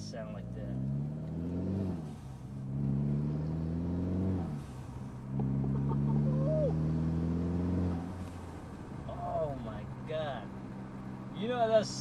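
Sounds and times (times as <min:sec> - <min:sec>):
car engine accelerating: 0:00.0 - 0:12.0
tire chirps: 0:00.0 - 0:12.0.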